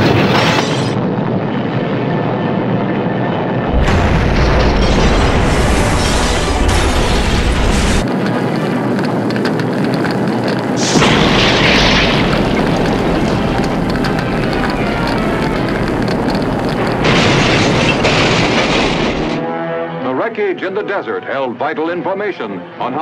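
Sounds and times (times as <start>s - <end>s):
explosion rumble and blast: 0.0s - 9.8s, 10.6s - 19.4s.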